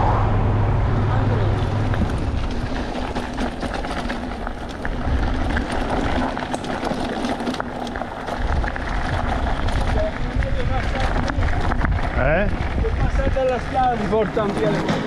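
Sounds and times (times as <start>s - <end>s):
wind rumbling on microphone: 0.0s - 14.6s
road and tyre noise: 0.0s - 15.0s
small rattles and knocks: 2.0s - 15.0s.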